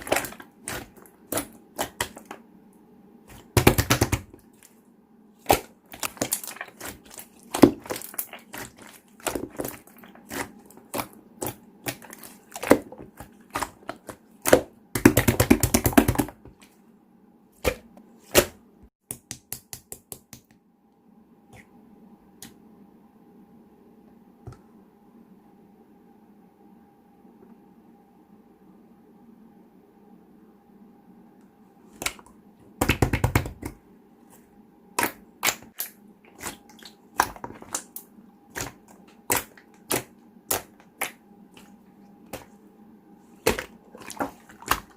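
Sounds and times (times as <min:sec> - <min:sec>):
faint hum: 0:00.0 - 0:18.8, 0:20.5 - 0:33.0, 0:33.6 - 0:44.9.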